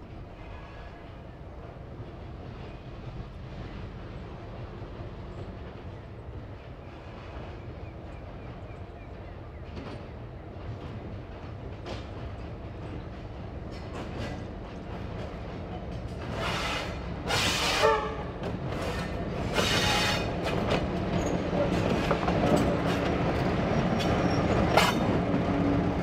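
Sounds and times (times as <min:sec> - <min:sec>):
diesel locomotive engine: 0:00.0 - 0:26.0.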